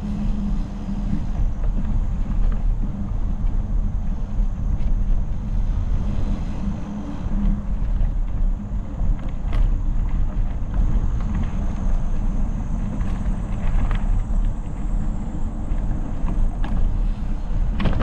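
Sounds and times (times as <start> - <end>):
bike tyres rolling on dirt: 0.0 - 18.0
light clicks from bumps: 0.0 - 18.0
wind on microphone: 0.0 - 18.0.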